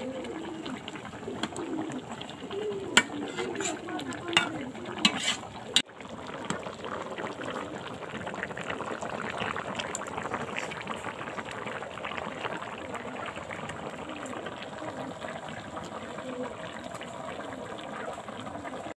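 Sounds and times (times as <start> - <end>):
curry bubbling in a pan: 0.0 - 19.0.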